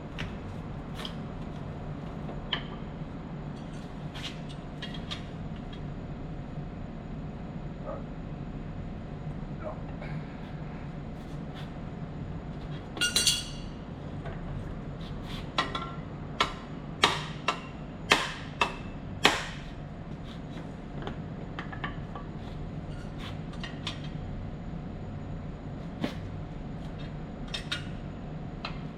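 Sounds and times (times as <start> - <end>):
low machinery hum: 0.0 - 28.9.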